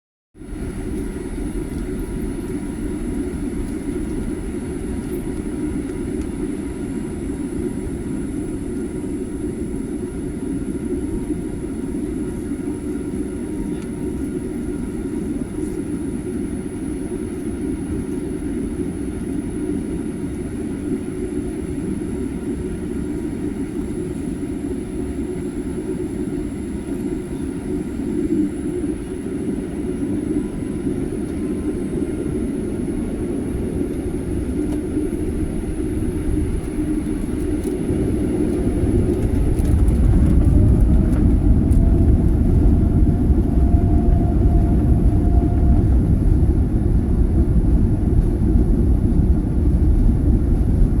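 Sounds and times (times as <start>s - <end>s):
jet engines rumbling: 0.4s - 51.0s
jet engines spooling up: 0.4s - 51.0s.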